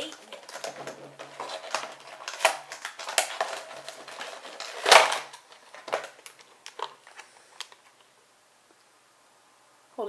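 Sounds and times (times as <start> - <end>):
plastic blister packaging crackling: 0.0 - 8.1.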